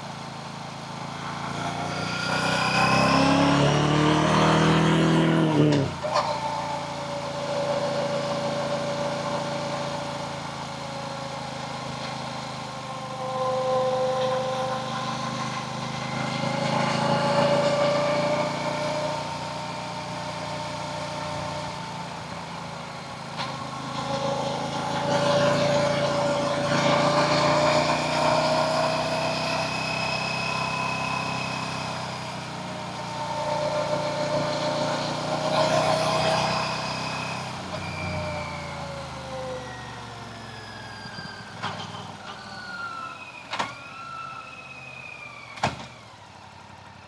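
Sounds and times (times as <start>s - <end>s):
motorcycle engine revving: 1.0s - 39.8s.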